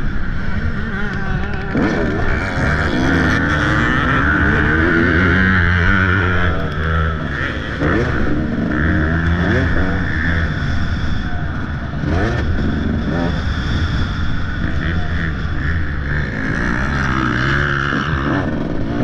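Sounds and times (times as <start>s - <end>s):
dirt bike engine revving: 0.0s - 19.0s
steady rush of noise: 0.0s - 19.0s.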